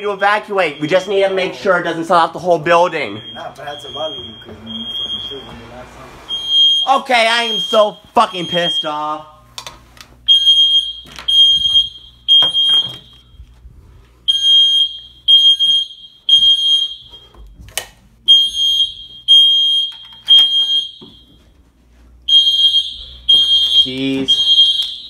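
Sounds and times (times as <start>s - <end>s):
fire alarm beeping: 0.0s - 5.7s, 6.3s - 9.4s, 10.2s - 13.5s, 14.2s - 17.6s, 18.2s - 21.6s, 22.2s - 25.0s.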